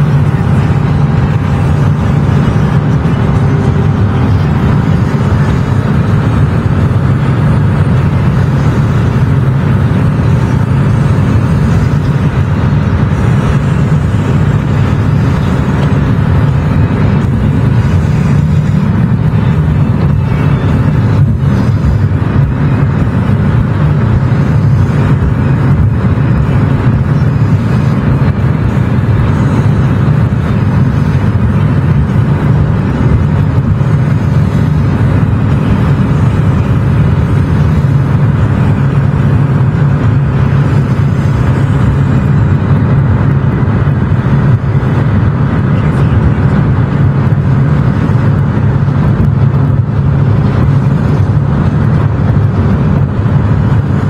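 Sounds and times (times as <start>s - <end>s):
car road and engine drone: 0.0s - 54.0s.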